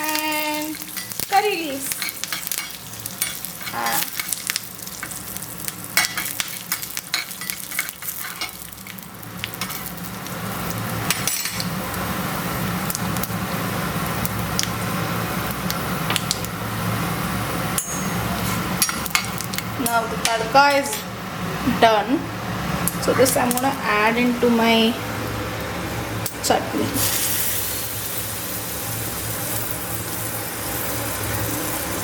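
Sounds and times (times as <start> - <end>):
spices sizzling and popping in oil: 0.0 - 21.2, 22.7 - 23.9, 25.4 - 32.0.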